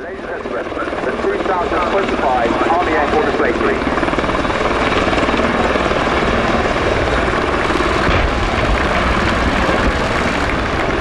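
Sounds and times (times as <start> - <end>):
helicopter rotor blades chopping: 0.0 - 11.0
loud helicopter engine: 0.0 - 11.0.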